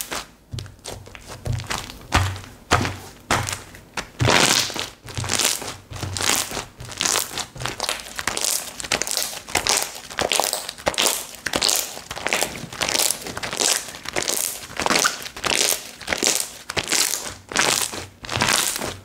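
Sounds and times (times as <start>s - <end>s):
slime squished by hand: 0.0s - 19.0s.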